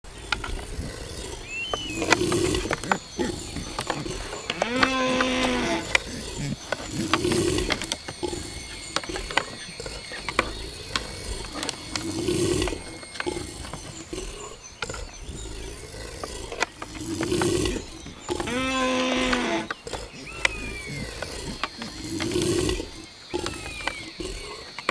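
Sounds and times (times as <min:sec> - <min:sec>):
antlers clashing: 0:00.1 - 0:24.9
deer stags roaring: 0:00.1 - 0:24.9.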